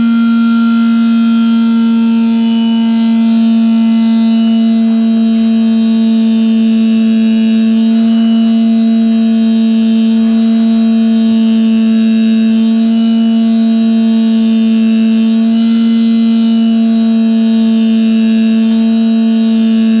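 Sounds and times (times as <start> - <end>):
pump humming: 0.0 - 20.0.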